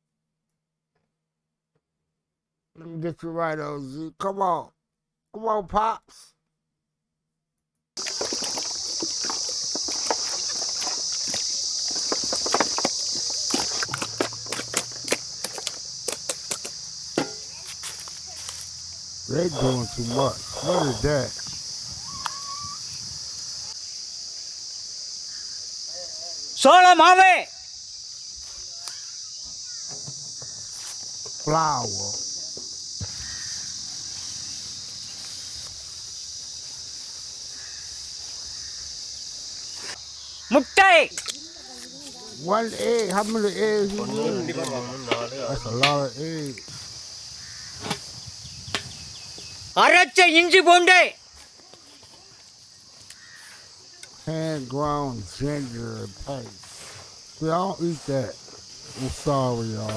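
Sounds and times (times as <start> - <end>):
crickets chirring: 8.0 - 59.9
faint outdoor background noise: 8.0 - 59.9.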